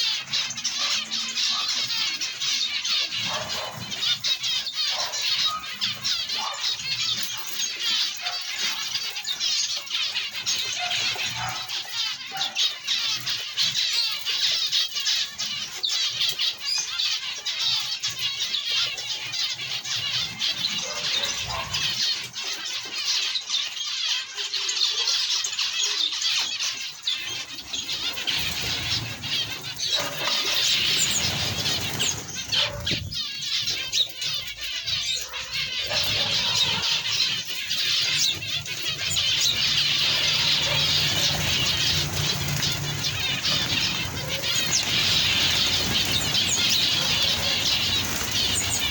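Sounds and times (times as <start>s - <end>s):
many small birds chirping: 0.0s - 48.9s.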